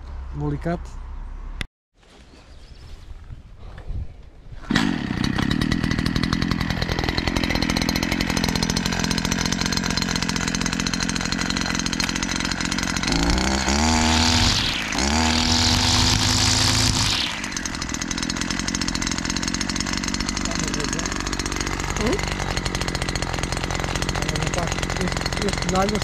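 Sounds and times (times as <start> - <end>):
brush cutter engine revving: 4.6 - 26.0.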